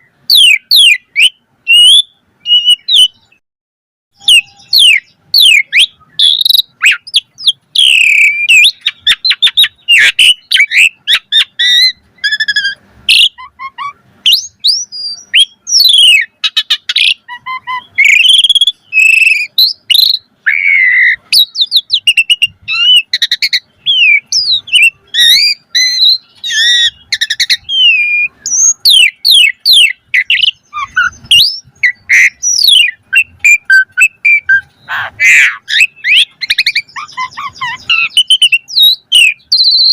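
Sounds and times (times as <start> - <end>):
starling singing: 0.0 - 3.4, 4.2 - 39.9.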